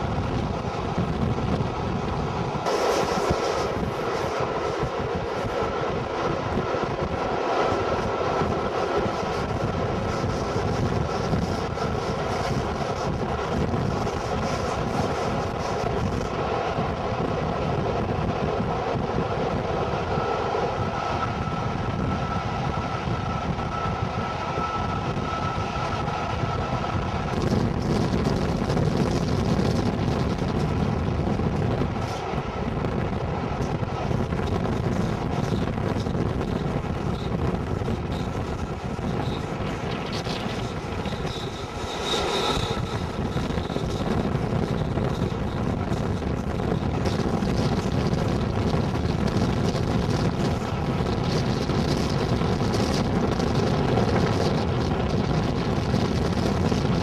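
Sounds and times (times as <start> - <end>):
rushing wind: 0.0 - 57.0
train wheels rumbling on rails: 0.0 - 57.0.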